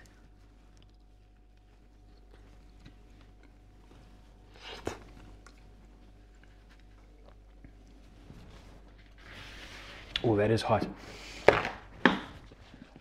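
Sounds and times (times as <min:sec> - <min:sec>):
quiet chewing: 0:00.0 - 0:10.3, 0:12.4 - 0:13.0.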